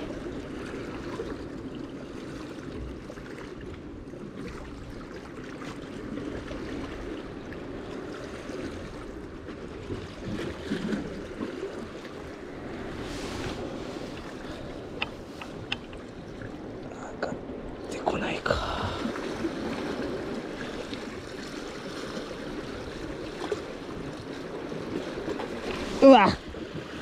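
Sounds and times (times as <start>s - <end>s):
seawater lapping against concrete: 0.0s - 27.0s.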